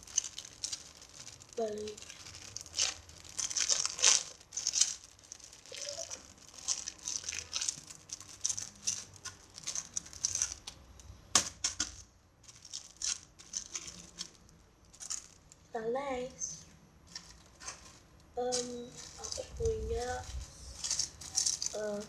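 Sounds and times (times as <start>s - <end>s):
squishy toy crinkling and crackling: 0.0s - 15.8s, 16.6s - 22.0s.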